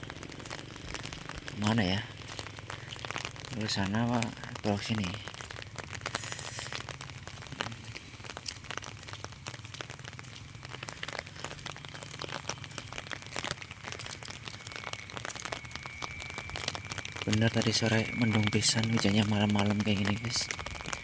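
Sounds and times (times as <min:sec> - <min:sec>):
raindrop patter: 0:00.0 - 0:21.0.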